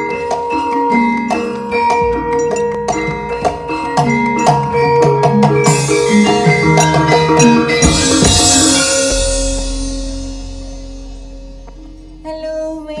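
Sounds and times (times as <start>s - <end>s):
metallophones ringing: 0.0s - 13.0s
hand drum strokes: 1.2s - 13.0s.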